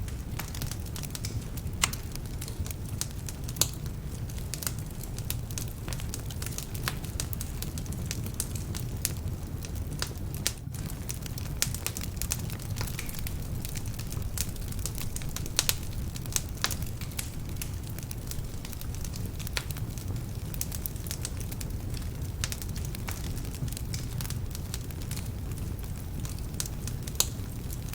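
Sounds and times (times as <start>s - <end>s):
fire flames rumbling: 0.0s - 27.9s
logs crackling and popping: 0.0s - 27.9s.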